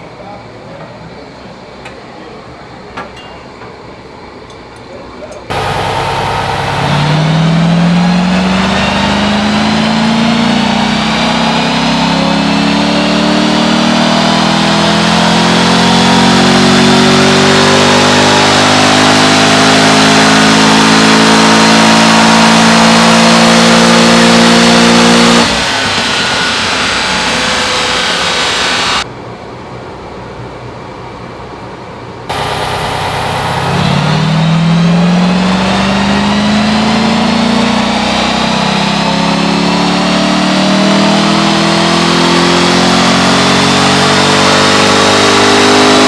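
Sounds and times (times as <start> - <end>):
car engine revving under load: 5.5 - 29.1, 32.3 - 46.0.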